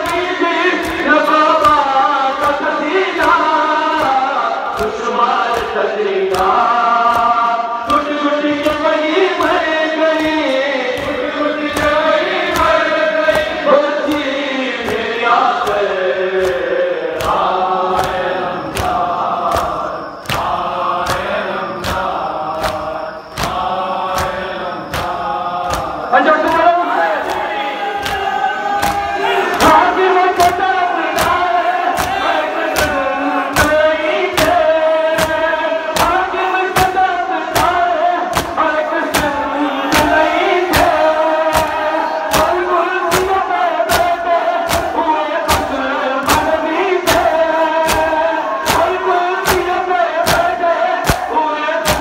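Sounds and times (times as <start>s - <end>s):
men chanting a lament in unison: 0.0s - 52.0s
rhythmic chest-beating: 0.0s - 52.0s.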